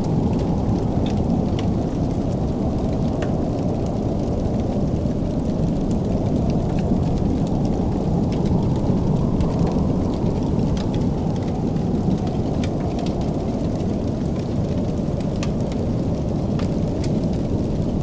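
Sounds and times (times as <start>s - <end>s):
fire crackling and popping: 0.0s - 18.0s
fire roaring: 0.0s - 18.0s.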